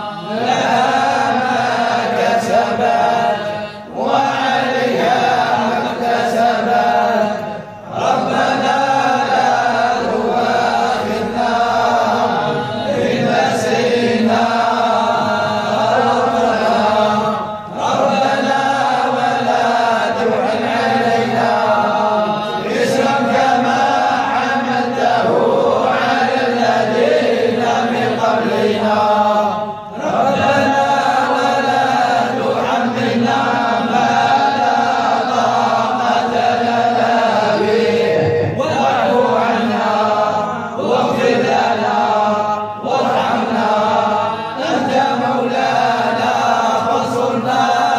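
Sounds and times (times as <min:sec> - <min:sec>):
men chanting together: 0:00.0 - 0:47.9.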